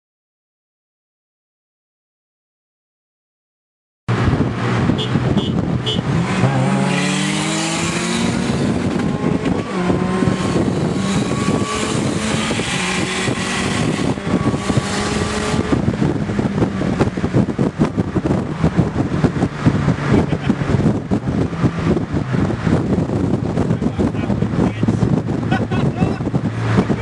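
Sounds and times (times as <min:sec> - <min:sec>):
car engine accelerating hard: 0:04.1 - 0:27.0.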